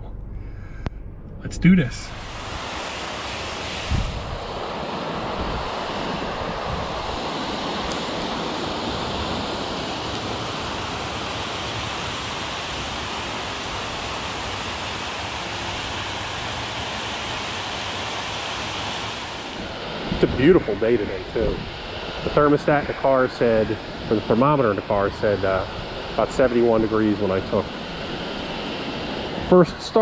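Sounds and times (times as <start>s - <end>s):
water roaring over spillway: 1.8s - 30.0s.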